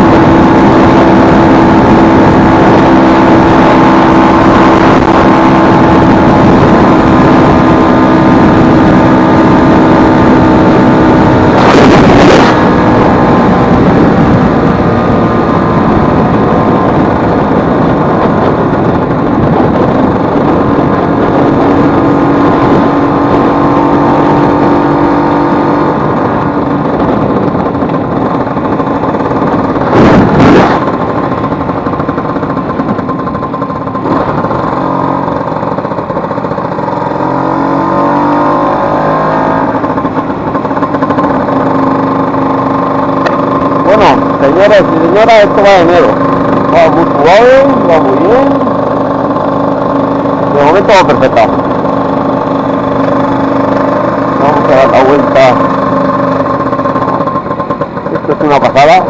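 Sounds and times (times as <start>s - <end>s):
scooter engine running: 0.0s - 59.0s.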